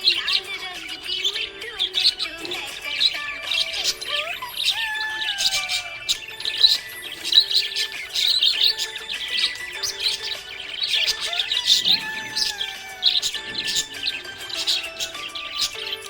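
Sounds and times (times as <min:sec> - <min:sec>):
budgerigars chirping: 0:00.0 - 0:16.0
soft background music: 0:00.0 - 0:16.0.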